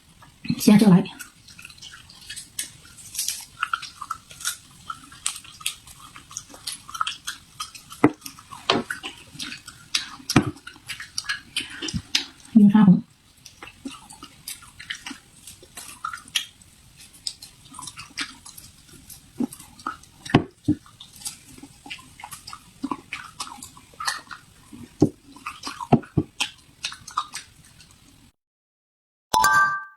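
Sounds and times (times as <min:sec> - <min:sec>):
person chewing food crunchily: 0:00.0 - 0:28.3.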